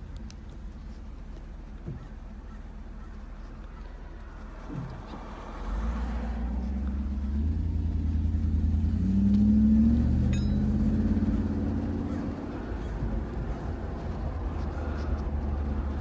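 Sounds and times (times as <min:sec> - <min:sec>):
car engine accelerating: 0:03.0 - 0:16.0.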